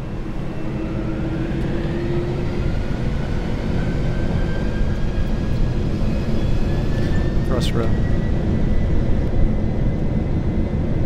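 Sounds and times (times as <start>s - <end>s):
jet engines spooling up: 0.0s - 11.0s.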